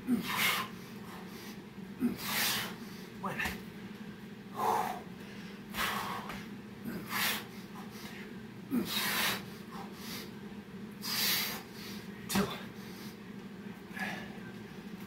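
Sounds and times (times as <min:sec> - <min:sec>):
man breathing hard: 0:00.0 - 0:03.6, 0:04.5 - 0:10.4, 0:11.0 - 0:13.3, 0:13.9 - 0:14.4
steady low hum: 0:00.0 - 0:15.0.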